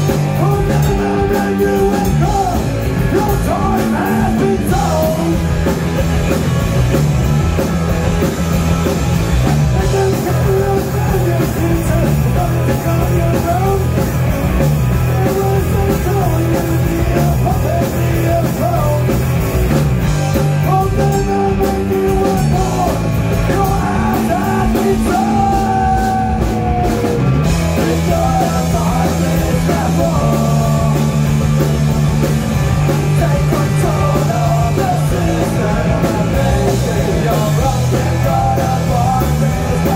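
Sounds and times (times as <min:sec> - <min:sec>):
male lead vocal: 0:00.0 - 0:05.8, 0:09.4 - 0:19.3, 0:20.3 - 0:31.8, 0:32.8 - 0:39.9
rock band playing live: 0:00.0 - 0:39.9.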